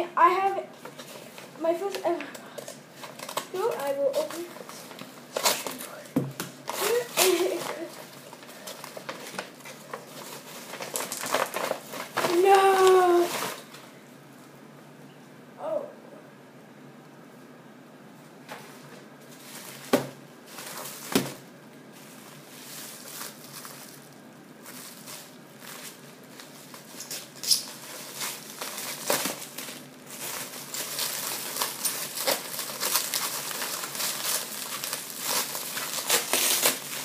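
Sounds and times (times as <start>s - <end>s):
plastic wrapping crinkling: 0.4s - 13.8s, 18.6s - 37.0s.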